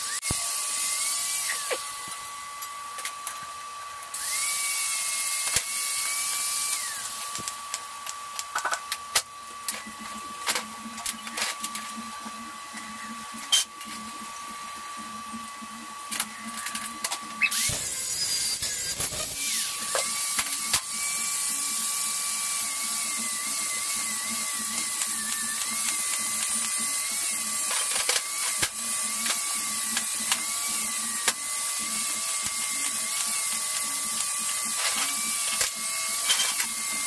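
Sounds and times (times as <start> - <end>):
angle grinder grinding metal: 0.0 - 37.0.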